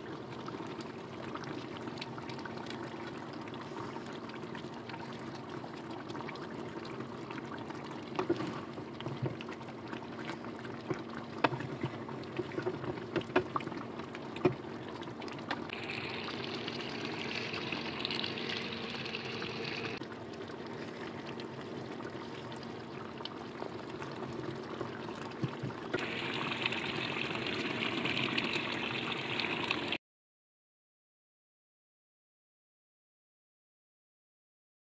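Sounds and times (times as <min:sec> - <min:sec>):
gravy bubbling in a pan: 0:00.0 - 0:30.0
low steady hum: 0:00.0 - 0:30.0.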